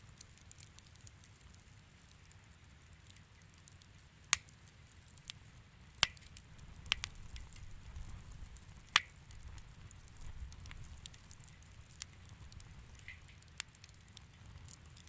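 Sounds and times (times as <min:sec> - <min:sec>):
fire crackling and popping: 0:00.0 - 0:15.0
low rumble of burning fire: 0:00.0 - 0:15.0.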